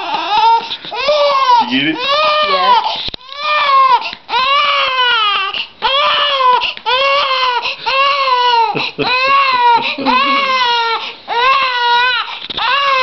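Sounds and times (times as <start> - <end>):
baby screaming: 0.0 - 13.0.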